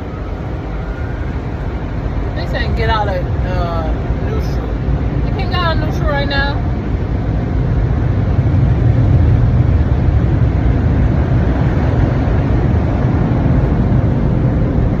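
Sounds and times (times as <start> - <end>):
car wash noise inside car: 1.9 - 15.0.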